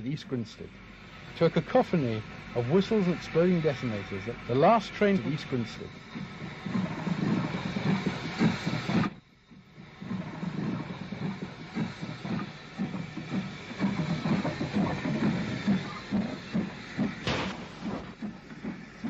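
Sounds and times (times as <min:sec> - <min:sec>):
low locomotive exhaust beats: 0:00.0 - 0:19.0
steam hissing: 0:00.0 - 0:19.0.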